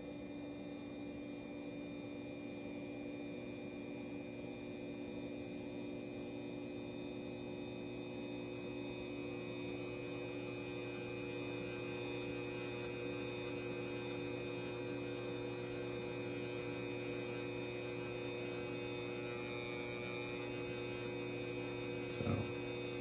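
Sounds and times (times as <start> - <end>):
inverter electrical hum: 0.0 - 23.0.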